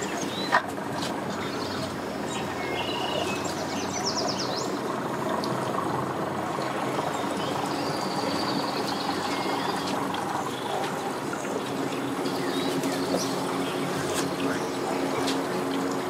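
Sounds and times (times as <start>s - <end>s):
outboard motor idling: 0.0s - 16.0s
water noise: 0.0s - 16.0s.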